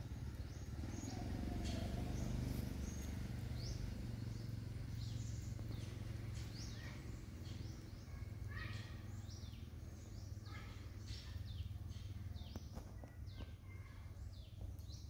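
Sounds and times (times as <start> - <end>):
low background rumble: 0.0 - 14.8
birds chirping: 0.0 - 15.0.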